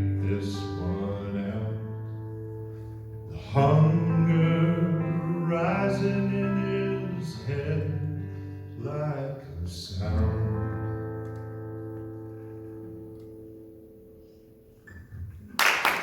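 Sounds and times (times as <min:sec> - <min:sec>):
guitar chords strummed: 0:00.0 - 0:15.4.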